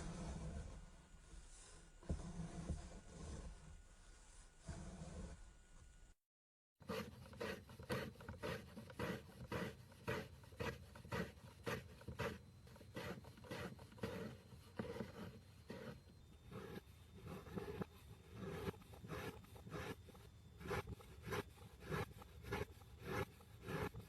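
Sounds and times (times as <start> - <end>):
strokes through kinetic sand: 0.0 - 5.6, 6.8 - 24.0.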